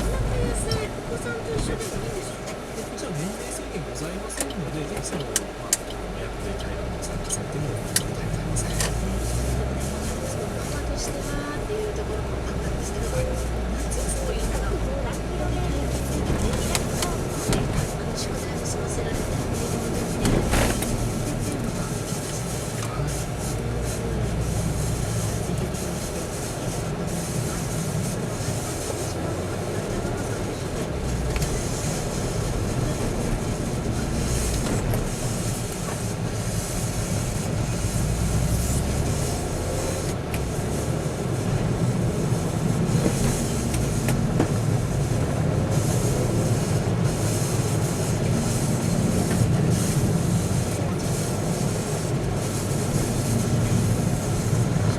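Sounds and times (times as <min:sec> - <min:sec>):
low speech or radio: 0:00.0 - 0:54.9
vehicle engine and road rumble: 0:00.0 - 0:54.9.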